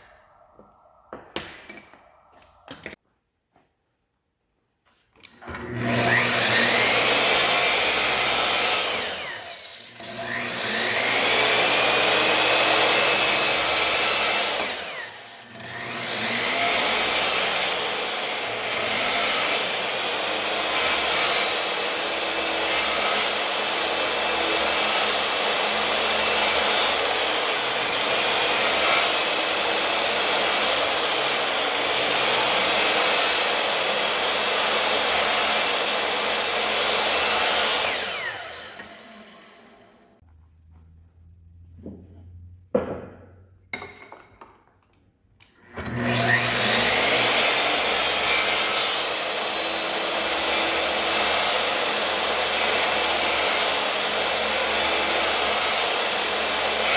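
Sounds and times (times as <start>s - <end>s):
power tool cutting wood: 5.3s - 40.2s, 45.5s - 56.9s.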